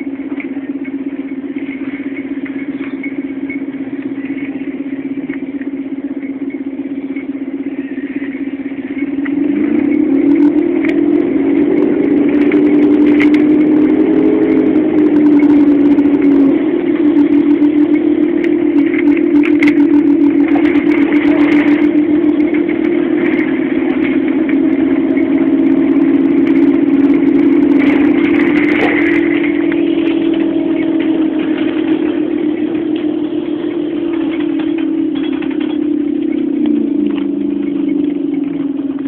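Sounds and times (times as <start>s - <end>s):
bus diesel engine droning: 0.0s - 39.0s
rattles: 0.0s - 39.0s.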